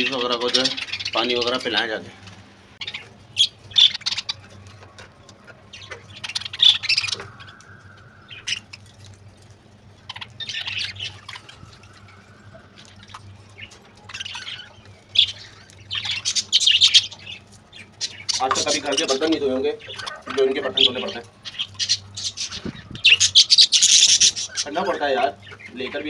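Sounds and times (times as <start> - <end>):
budgerigars chattering and squawking: 0.0 - 2.2, 2.8 - 26.0.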